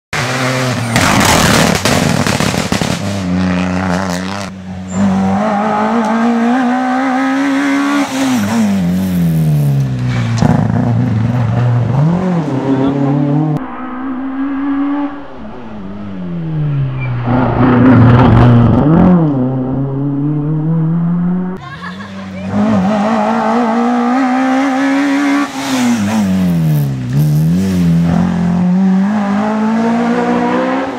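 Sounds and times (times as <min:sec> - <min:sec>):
rally car engine at high revs: 0:00.1 - 0:13.6, 0:17.0 - 0:30.9
tyre and road noise: 0:00.2 - 0:30.9.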